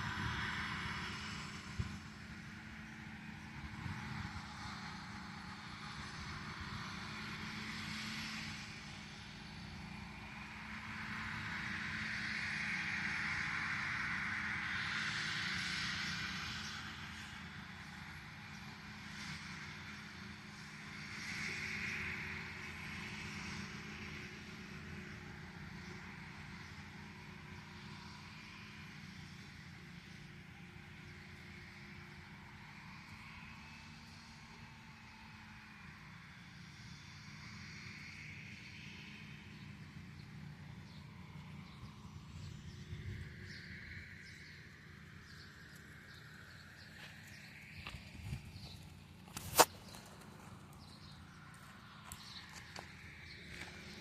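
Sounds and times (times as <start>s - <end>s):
droning whine: 0.0s - 54.0s
farm machinery engine rumble: 0.0s - 54.0s.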